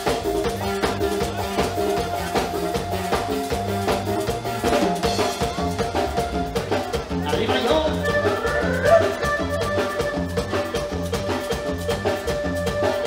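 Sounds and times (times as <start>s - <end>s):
instrumental latin dance music: 0.0s - 13.0s.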